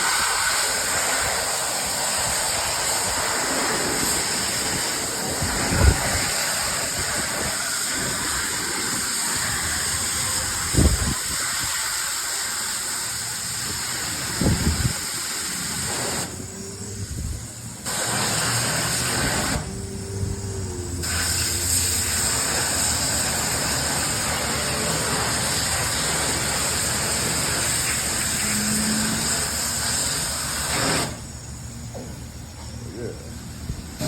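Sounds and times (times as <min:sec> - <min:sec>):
pressurised spray hissing: 0:00.0 - 0:34.0.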